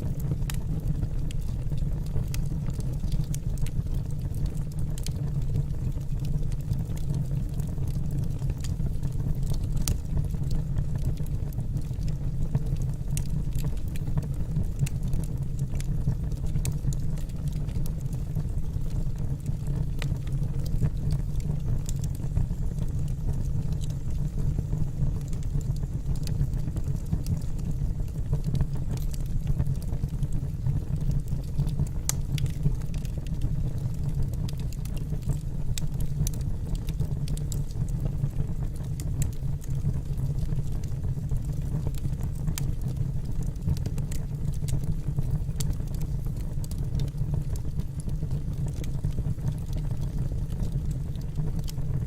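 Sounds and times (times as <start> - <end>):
burning logs crackling and popping: 0.0 - 52.0
low rumble of flames: 0.0 - 52.0.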